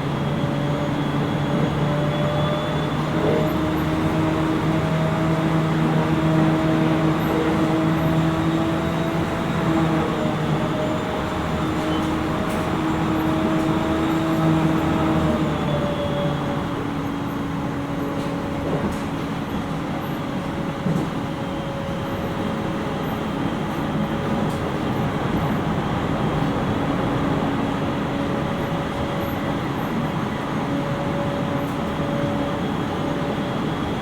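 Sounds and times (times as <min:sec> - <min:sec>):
train hum: 0:00.0 - 0:34.0
train rolling noise: 0:00.0 - 0:34.0.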